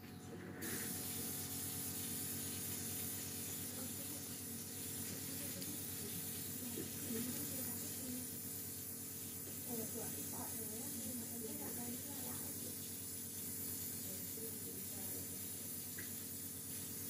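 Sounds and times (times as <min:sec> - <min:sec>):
steady hiss: 0:00.6 - 0:17.0.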